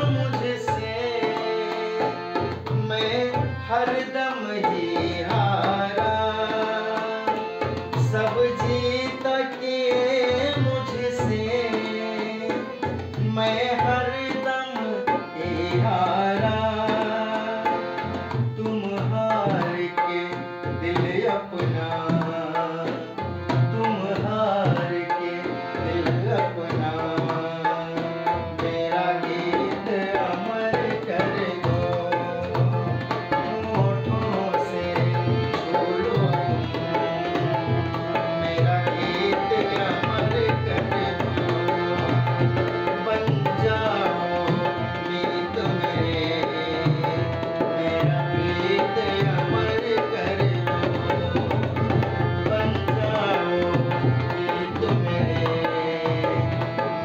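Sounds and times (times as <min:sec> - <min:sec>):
harmonium melody: 0:00.0 - 0:57.0.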